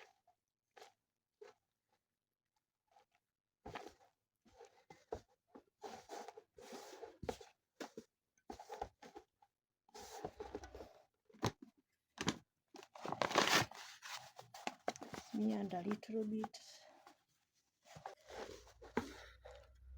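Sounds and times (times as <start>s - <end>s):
rustling and scraping ingredients: 3.7s - 19.9s.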